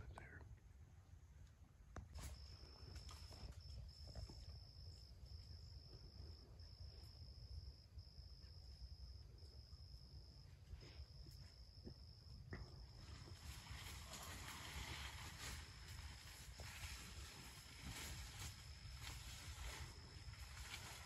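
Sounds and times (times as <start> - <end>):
faint insect trill: 0.0 - 21.0.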